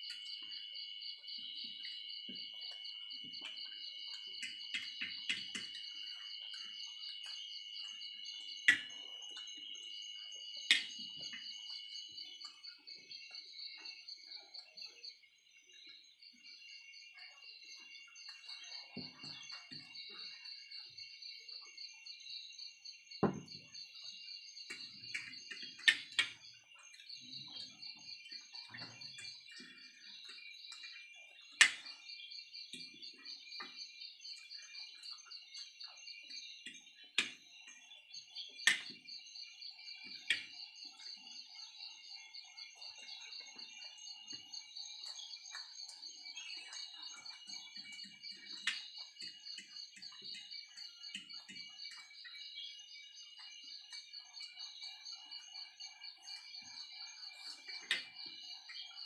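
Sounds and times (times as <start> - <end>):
high-pitched pulsing chirp: 0.0 - 59.0.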